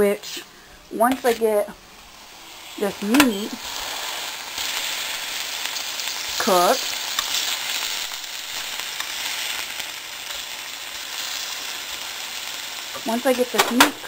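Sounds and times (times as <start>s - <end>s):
steak sizzling in a pan: 0.0s - 14.0s.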